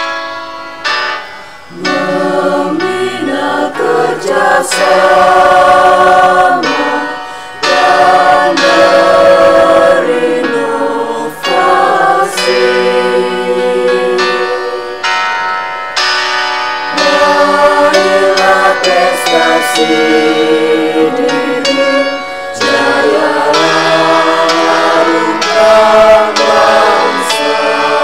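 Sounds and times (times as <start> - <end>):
choir singing a hymn: 1.7 - 28.0.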